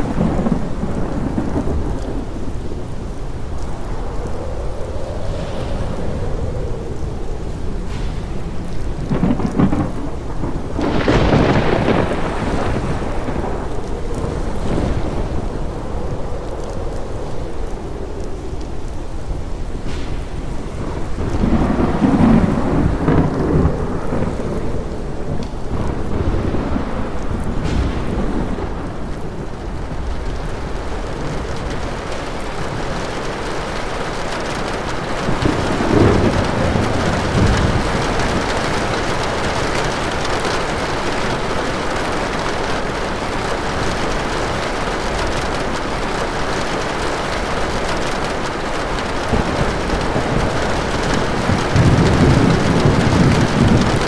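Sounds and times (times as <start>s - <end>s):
steady rain: 0.0s - 54.0s
thunder rolling: 0.0s - 54.0s.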